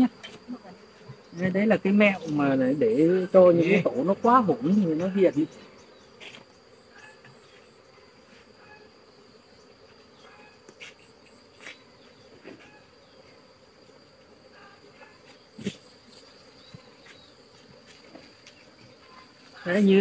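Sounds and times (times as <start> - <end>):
honeybees humming: 0.0 - 20.0.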